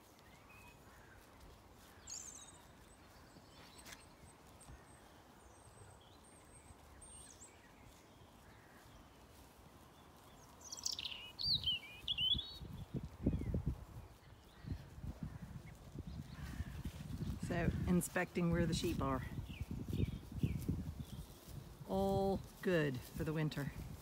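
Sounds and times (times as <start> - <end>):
faint songbird chirps: 0.0 - 17.8, 19.3 - 21.6.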